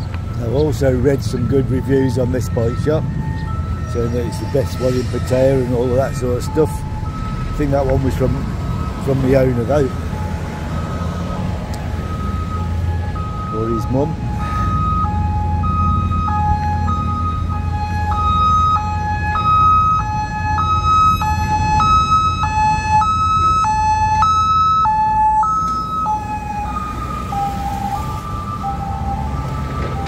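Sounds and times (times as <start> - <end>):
road traffic rumble: 0.0 - 30.0
two-tone emergency siren: 0.0 - 30.0.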